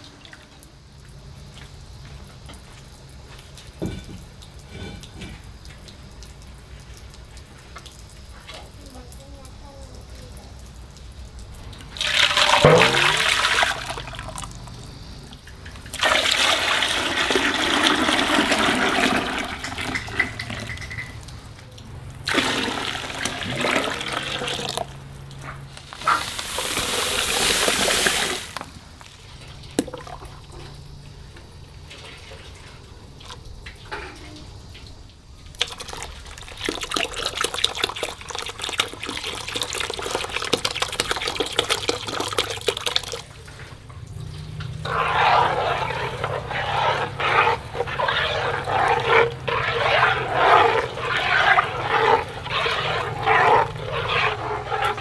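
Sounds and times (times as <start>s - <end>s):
water pouring and splashing: 0.0s - 55.0s.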